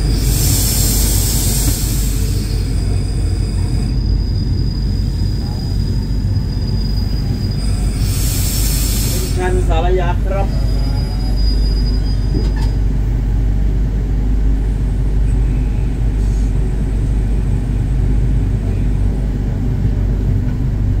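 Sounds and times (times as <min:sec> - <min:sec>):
diesel train engine idling: 0:00.0 - 0:21.0.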